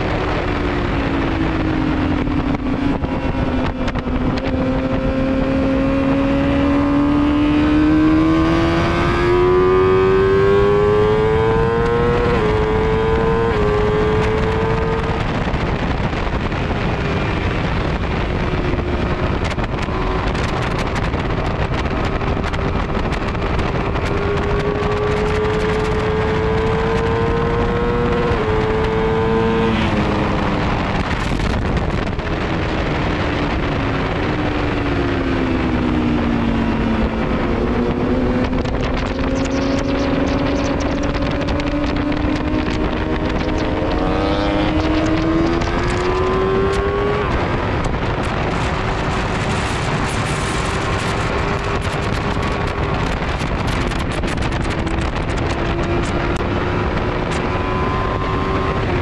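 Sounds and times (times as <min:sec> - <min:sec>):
motorcycle engine running hard: 0:00.0 - 0:59.0
wind rushing over microphone: 0:00.0 - 0:59.0.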